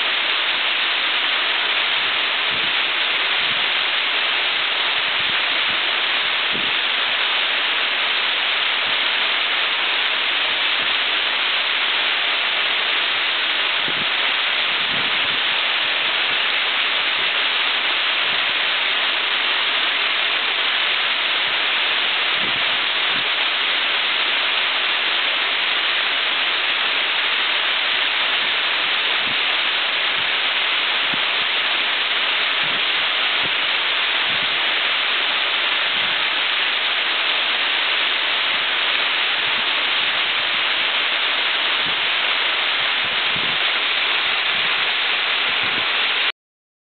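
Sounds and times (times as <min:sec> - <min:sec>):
waterfall rushing and splashing: 0:00.0 - 0:46.3.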